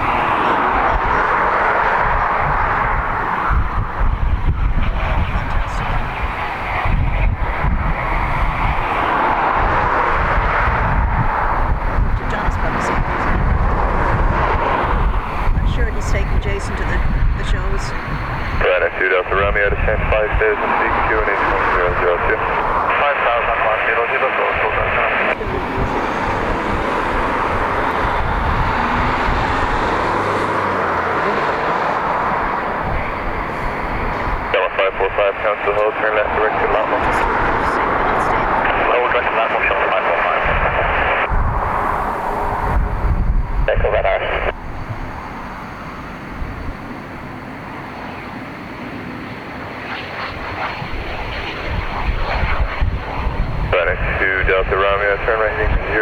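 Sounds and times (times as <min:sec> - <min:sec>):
jet aircraft engine rushing: 0:00.0 - 0:56.0.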